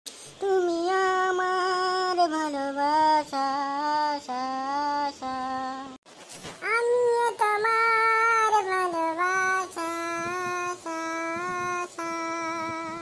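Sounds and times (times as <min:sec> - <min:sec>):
high voice singing: 0:00.4 - 0:06.0, 0:06.6 - 0:13.0.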